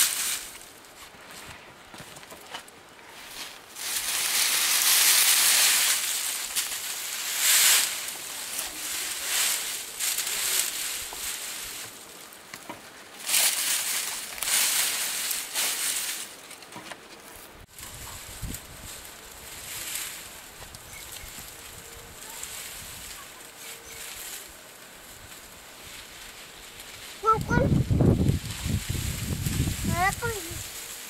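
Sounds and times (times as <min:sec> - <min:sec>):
straw rustling and crunching: 0:00.0 - 0:31.0.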